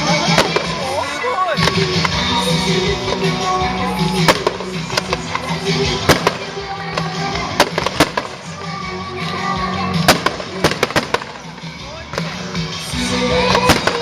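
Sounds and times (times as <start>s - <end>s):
fireworks bangs: 0.0s - 14.0s
steady music: 0.0s - 14.0s.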